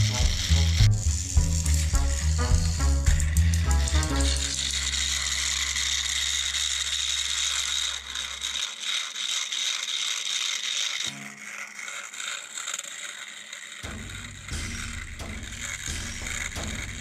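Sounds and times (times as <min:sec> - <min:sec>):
toy train motor gear whir: 0:00.0 - 0:17.0.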